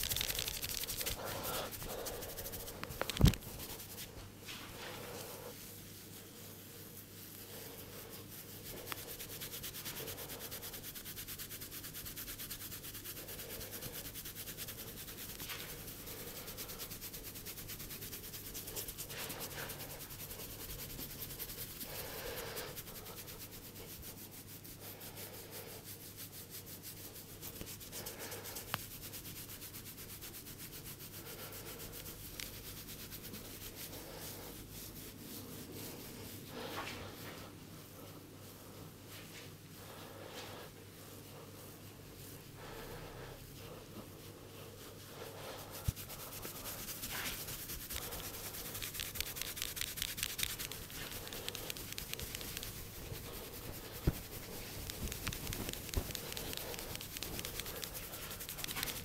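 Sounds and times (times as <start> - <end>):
hands rubbing scalp and hair: 0.0 - 59.0.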